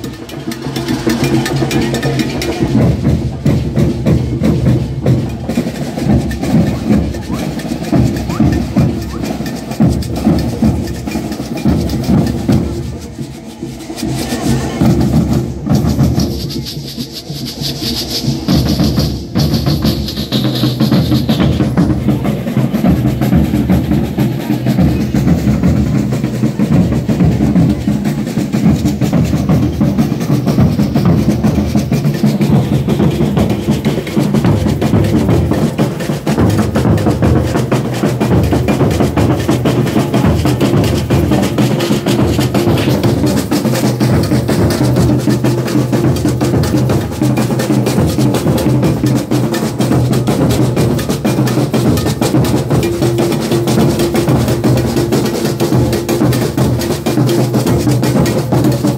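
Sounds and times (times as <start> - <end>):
rattling snare drums: 0.0 - 58.9.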